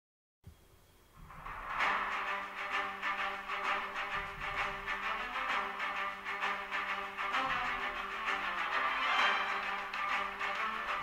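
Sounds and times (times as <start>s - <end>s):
instrumental music with held notes: 1.2s - 11.0s.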